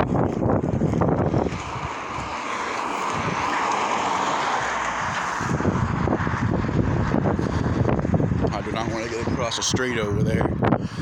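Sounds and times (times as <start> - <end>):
vehicle passing: 0.0 - 10.2
wind buffeting microphone: 0.0 - 11.0.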